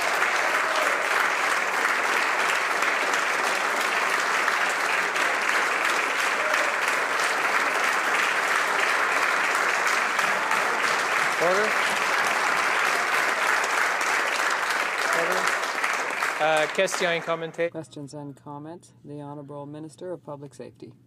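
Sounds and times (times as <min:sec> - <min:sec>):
crowd applause: 0:00.0 - 0:17.7.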